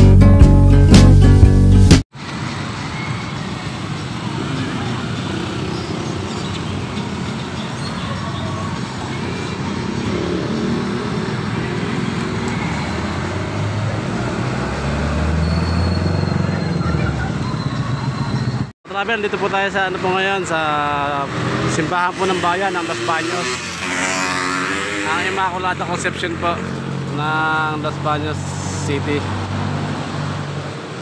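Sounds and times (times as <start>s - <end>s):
street traffic: 2.0s - 31.0s.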